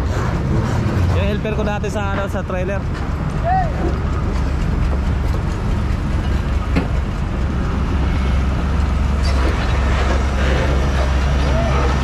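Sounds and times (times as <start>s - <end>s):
diesel excavator engine rumbling: 0.0s - 12.0s.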